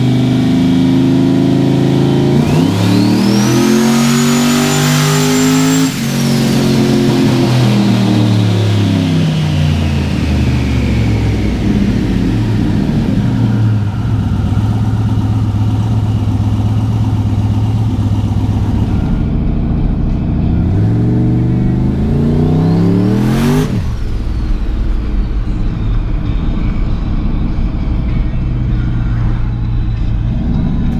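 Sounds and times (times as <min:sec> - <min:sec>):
turbocharged car engine revving: 0:00.0 - 0:30.9.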